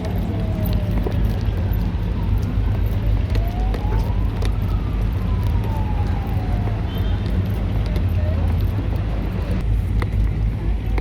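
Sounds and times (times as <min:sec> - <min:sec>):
distant siren wailing: 0:00.0 - 0:08.9
city traffic rumble: 0:00.0 - 0:11.0.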